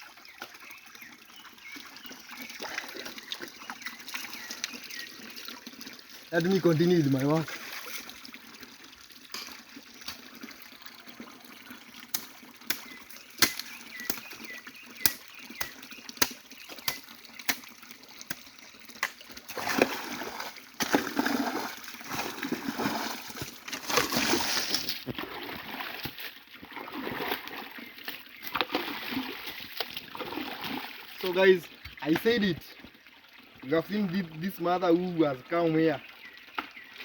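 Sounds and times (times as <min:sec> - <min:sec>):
stream water splashing: 0:00.0 - 0:37.0.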